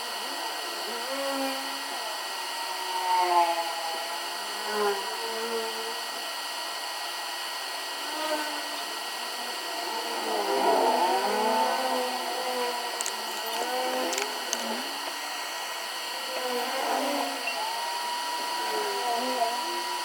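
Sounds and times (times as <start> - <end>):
hot air blower hissing: 0.0 - 3.0, 3.6 - 20.0.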